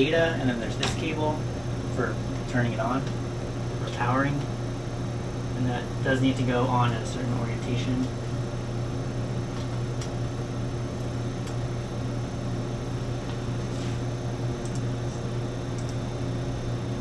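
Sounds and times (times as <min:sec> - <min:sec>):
laboratory equipment humming: 0:00.0 - 0:17.0.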